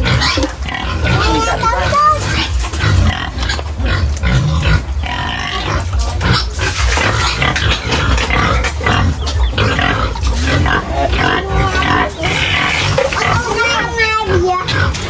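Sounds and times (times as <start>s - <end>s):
pigs squealing and grunting: 0.0s - 15.0s.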